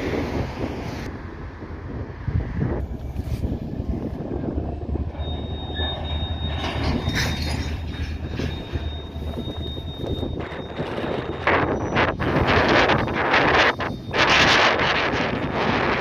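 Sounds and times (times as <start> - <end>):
freight train cars rumbling: 0.0 - 16.0
steel wheels squealing: 3.0 - 16.0.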